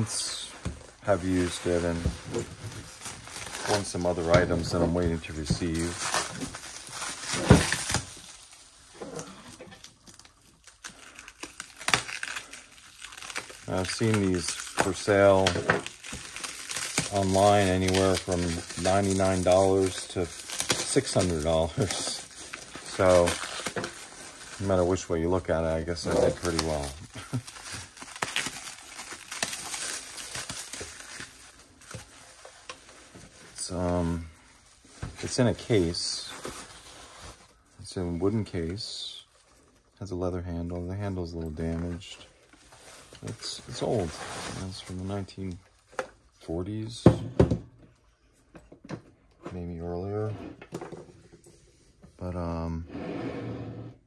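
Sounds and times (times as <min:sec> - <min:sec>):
plastic wrap crinkling: 0:00.0 - 0:46.9.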